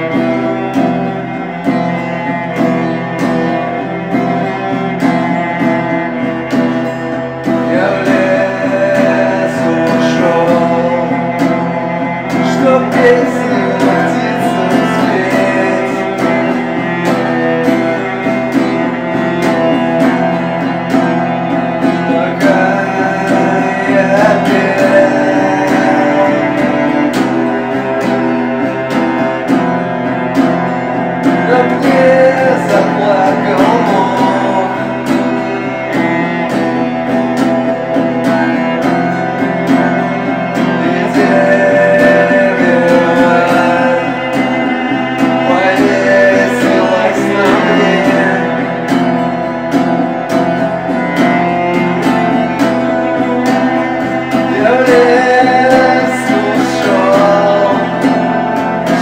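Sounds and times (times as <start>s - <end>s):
guitar: 0.0s - 59.0s
person singing: 0.0s - 59.0s.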